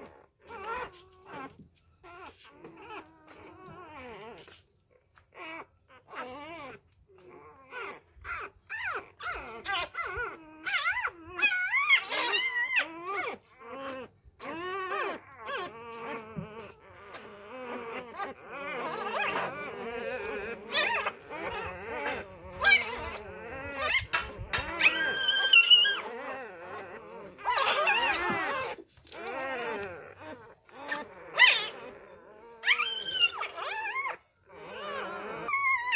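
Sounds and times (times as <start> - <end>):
puppies whimpering and crying: 0.0 - 35.9.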